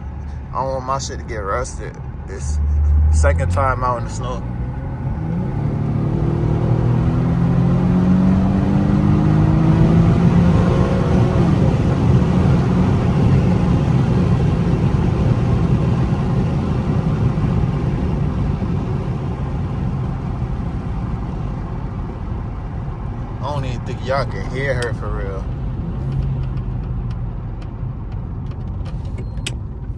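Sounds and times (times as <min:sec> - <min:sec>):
car engine accelerating: 0:00.0 - 0:29.9
road and tyre rumble: 0:00.0 - 0:29.9.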